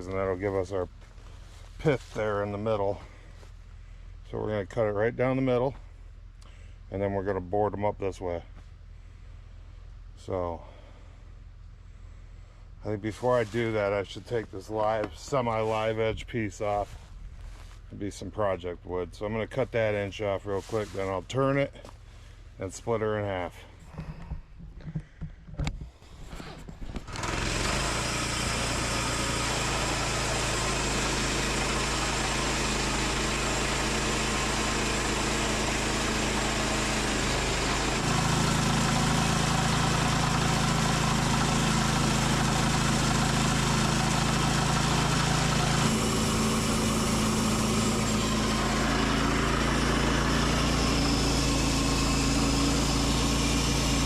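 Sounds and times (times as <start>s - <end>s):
gas engine starting and running: 0.0s - 4.9s, 8.9s - 54.0s.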